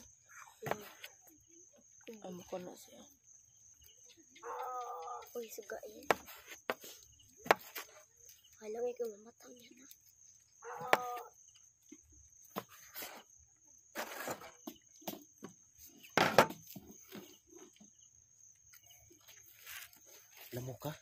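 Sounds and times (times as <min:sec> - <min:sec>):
high insect trill: 0:00.0 - 0:21.0.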